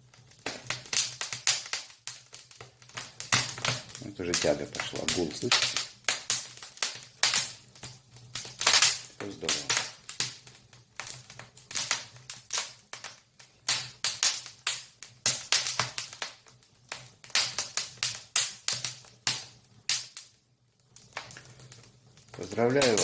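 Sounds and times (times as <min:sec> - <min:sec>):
low hum of fireplace draught: 0:00.0 - 0:23.0
wood fire crackling and popping: 0:00.0 - 0:23.0.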